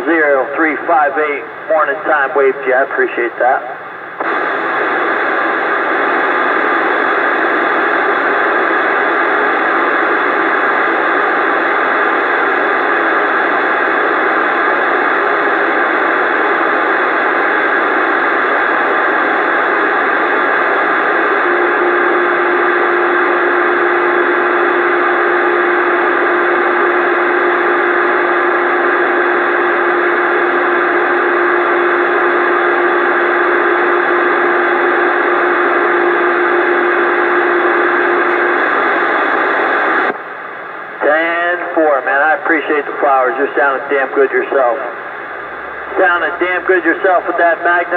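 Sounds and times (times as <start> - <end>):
radio static hiss: 0.0 - 47.9.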